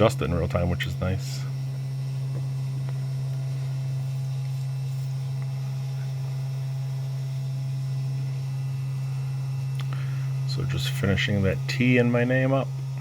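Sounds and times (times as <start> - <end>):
cnc engraver humming: 0.0 - 13.0.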